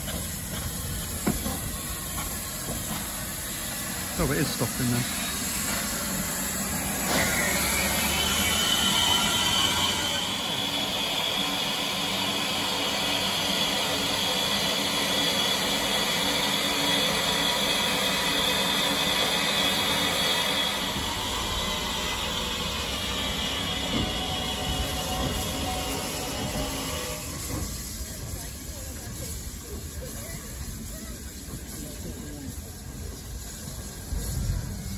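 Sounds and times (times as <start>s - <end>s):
steam locomotive hissing steam: 0.0s - 34.9s.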